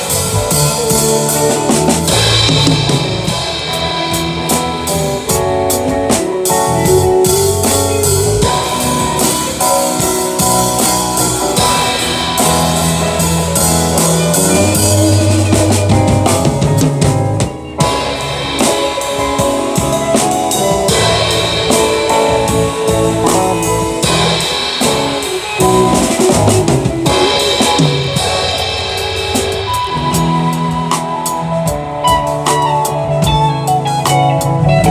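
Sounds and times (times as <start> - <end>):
bass drum: 0.0 - 34.9
guitar: 0.0 - 34.9.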